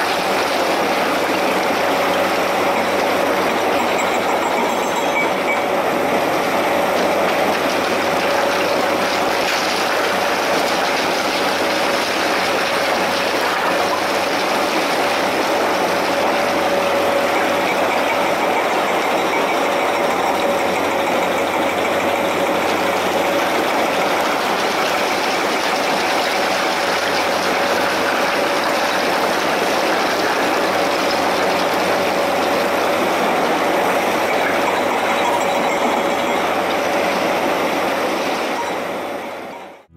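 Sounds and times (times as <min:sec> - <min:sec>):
excavator diesel engine drone: 0:00.0 - 0:39.9
hydraulic whine: 0:00.0 - 0:39.9.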